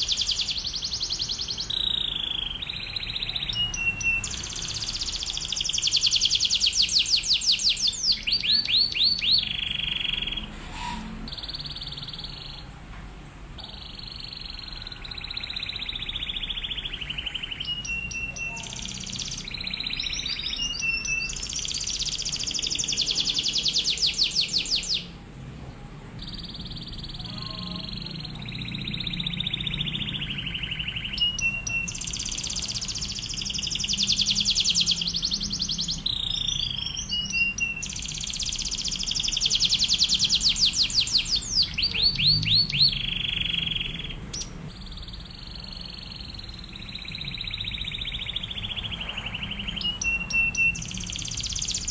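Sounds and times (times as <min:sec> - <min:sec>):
canary singing with trills: 0:00.0 - 0:12.9, 0:13.5 - 0:51.9.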